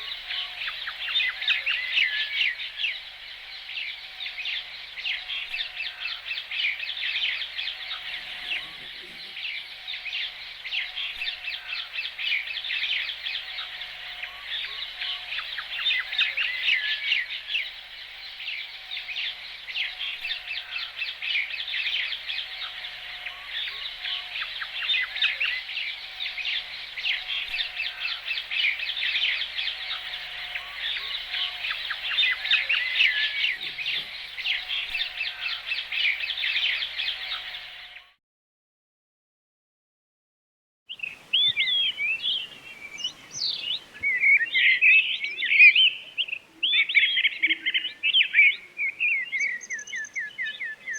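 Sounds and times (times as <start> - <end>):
small birds chirping and twittering: 0.0 - 38.2, 40.9 - 50.9.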